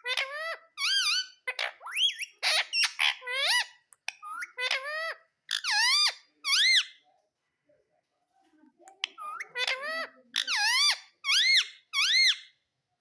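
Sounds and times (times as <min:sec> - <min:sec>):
parrot calling: 0:00.0 - 0:07.0, 0:09.0 - 0:12.6.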